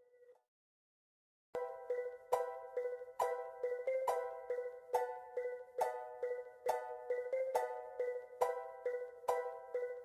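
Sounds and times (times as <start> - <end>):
light plucked background music: 1.6 - 10.0.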